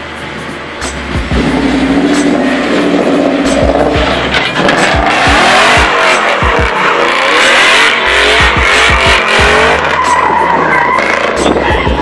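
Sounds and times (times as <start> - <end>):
van engine revving hard: 0.8 - 12.0
tyres screeching on tarmac: 2.2 - 12.0.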